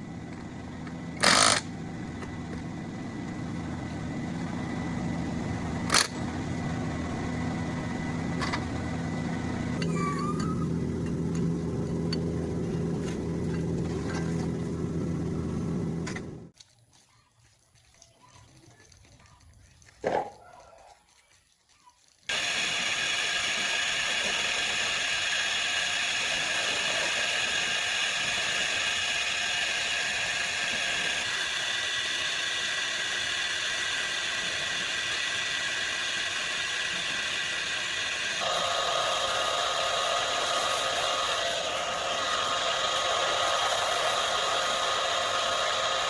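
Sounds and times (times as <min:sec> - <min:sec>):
machine whirring: 0:00.0 - 0:16.5, 0:22.3 - 0:46.0.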